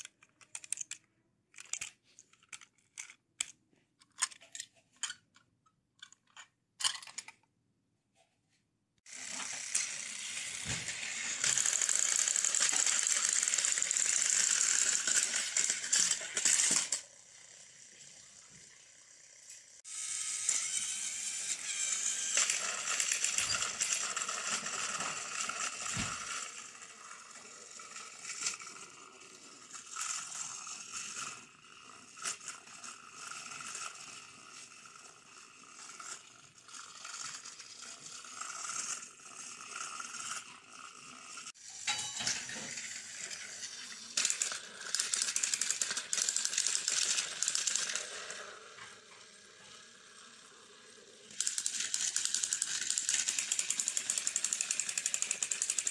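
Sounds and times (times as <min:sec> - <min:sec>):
toy train motors whirring and rattling: 0:00.0 - 0:07.4, 0:09.0 - 0:55.9.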